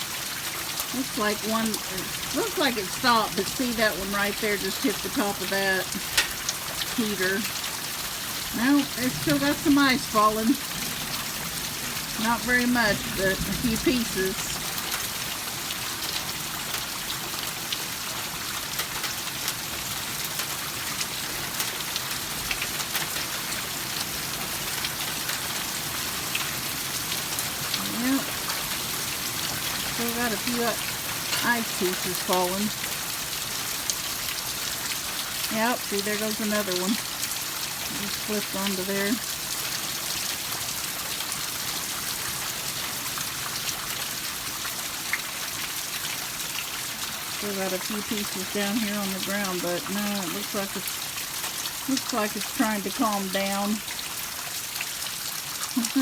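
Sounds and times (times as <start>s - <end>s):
heavy rain falling: 0.0s - 56.0s
hailstones ticking: 0.3s - 45.4s.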